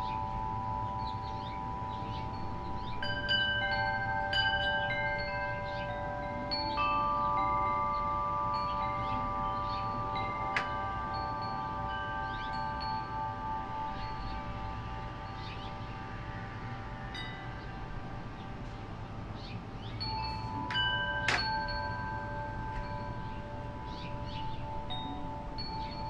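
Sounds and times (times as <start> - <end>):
wind chime ringing: 0.0 - 26.0.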